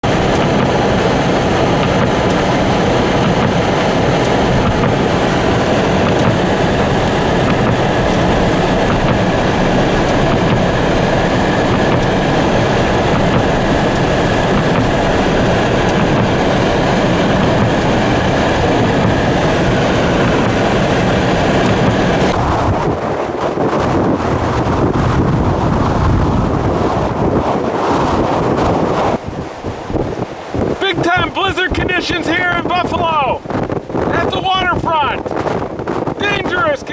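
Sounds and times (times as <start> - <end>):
blizzard wind buffeting microphone: 0.0 - 36.9.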